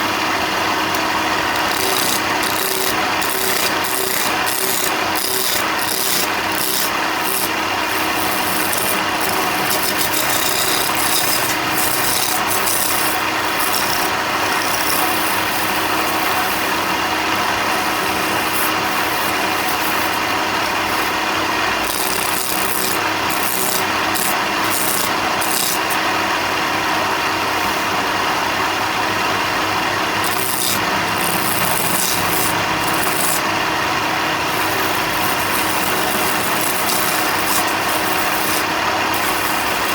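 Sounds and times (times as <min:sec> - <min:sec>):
power tool rasping wood: 0:00.0 - 0:39.9.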